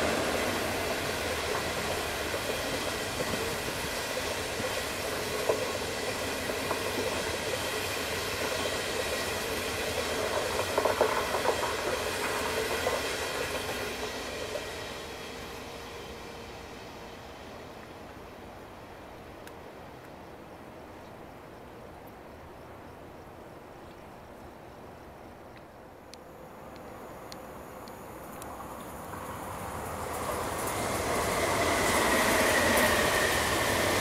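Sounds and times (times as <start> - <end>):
train wheels rushing on rail: 0.0 - 20.0, 26.2 - 34.0.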